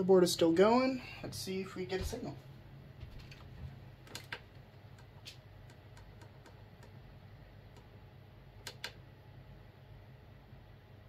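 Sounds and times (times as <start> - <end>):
computer fans humming: 0.0 - 11.0.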